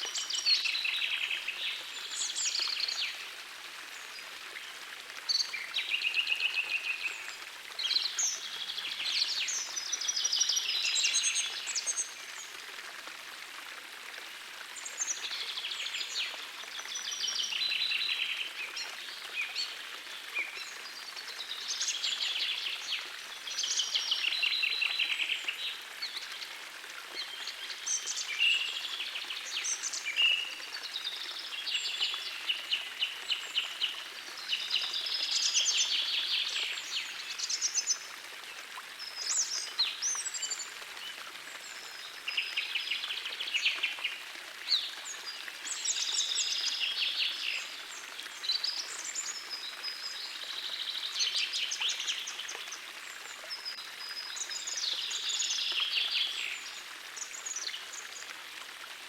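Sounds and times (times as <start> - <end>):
gentle stream rushing: 0.0 - 59.0.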